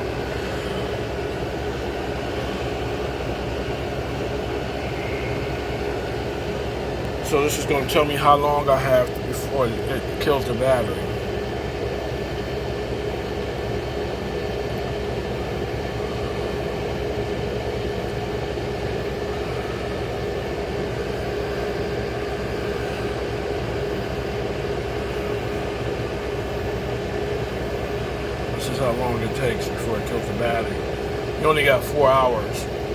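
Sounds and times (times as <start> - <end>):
air conditioner running: 0.0 - 32.9.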